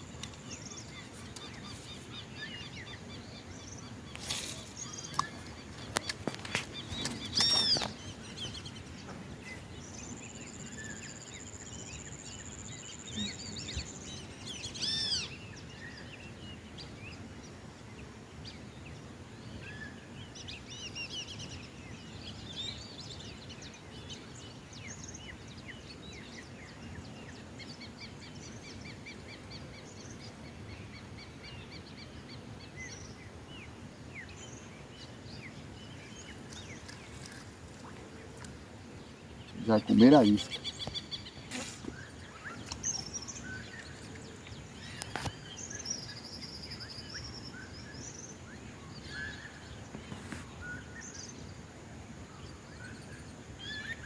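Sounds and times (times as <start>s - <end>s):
outdoor background hiss: 0.0s - 54.0s
wild birds calling and singing: 0.0s - 54.0s.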